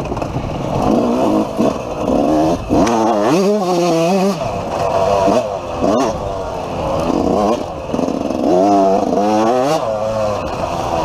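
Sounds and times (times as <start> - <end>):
low rumble of wind: 0.0 - 9.2
dirt bike engine revving: 0.0 - 11.0.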